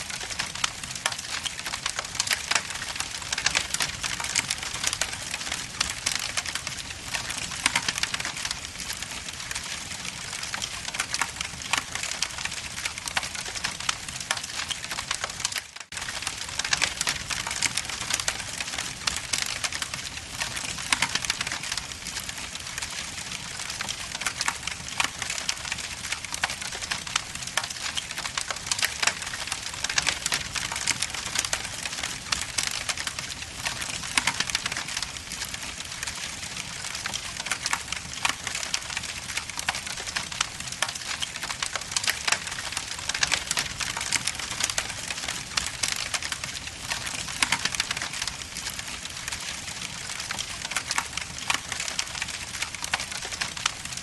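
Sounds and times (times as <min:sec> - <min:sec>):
log fire crackling: 0:00.0 - 0:54.0.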